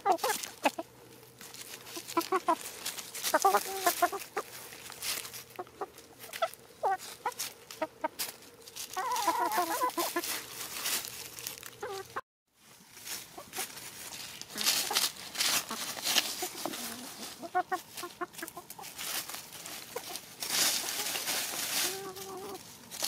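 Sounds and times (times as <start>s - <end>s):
hens clucking: 0.0s - 12.2s, 13.0s - 23.0s
dry leaves crackling: 0.0s - 23.0s.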